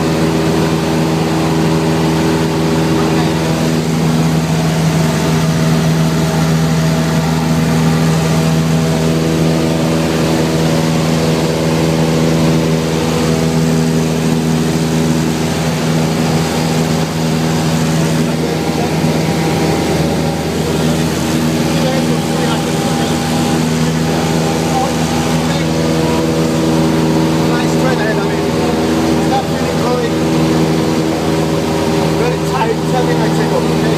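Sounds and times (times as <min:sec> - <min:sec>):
propeller plane engine droning: 0:00.0 - 0:33.9.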